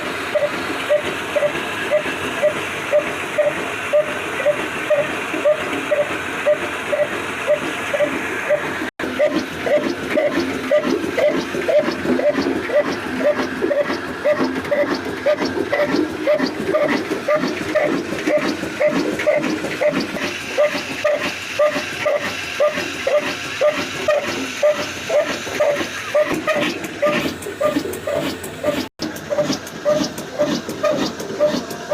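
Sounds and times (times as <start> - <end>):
diesel engine chuffing: 0.0 - 31.9.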